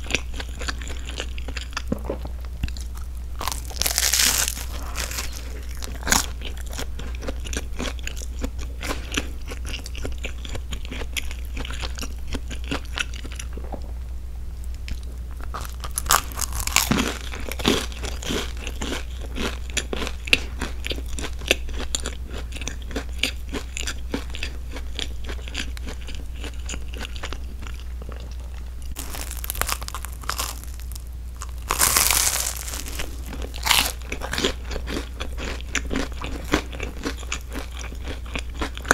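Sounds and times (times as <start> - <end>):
crunchy chewing of sandwich: 0.0 - 13.7, 14.9 - 38.9.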